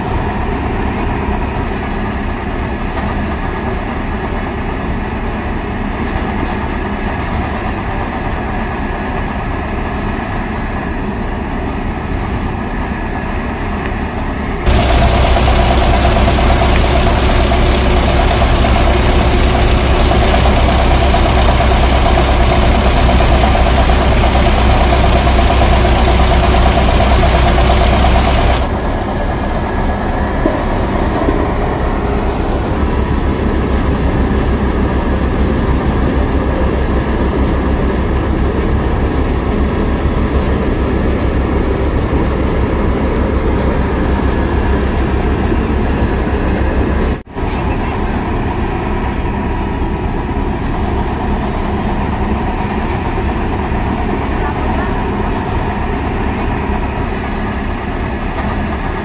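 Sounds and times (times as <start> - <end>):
threshing machine running: 0.0 - 59.0.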